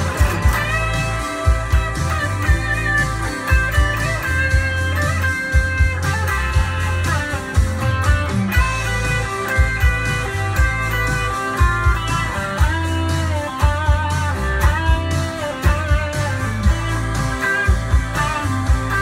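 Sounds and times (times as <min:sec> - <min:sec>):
bass: 0:00.0 - 0:19.0
electric guitar solo: 0:00.0 - 0:19.0
steady kick drum beat: 0:00.0 - 0:19.0.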